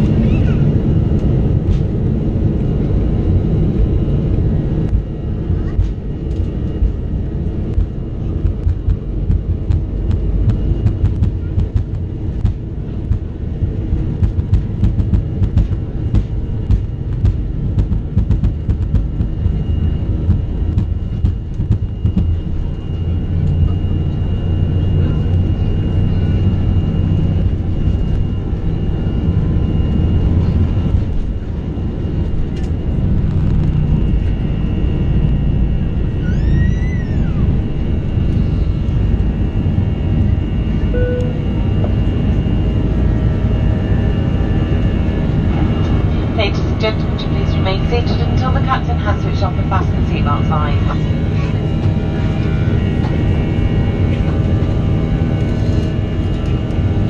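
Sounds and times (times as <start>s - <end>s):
jet engines at takeoff thrust: 0.0s - 57.0s
runway rumble through airframe: 0.0s - 57.0s.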